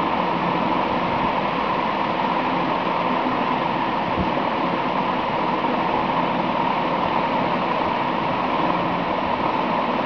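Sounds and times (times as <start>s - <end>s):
steady hissing noise: 0.0s - 10.0s.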